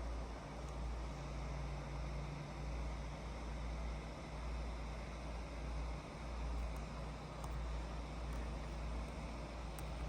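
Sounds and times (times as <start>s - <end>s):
computer fan whirring: 0.0s - 10.0s.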